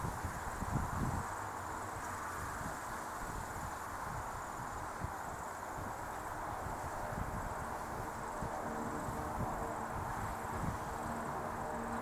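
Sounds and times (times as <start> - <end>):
distant jet engine roar: 0.0 - 12.0
insect trill: 0.0 - 12.0
wind buffeting microphone: 0.0 - 12.0.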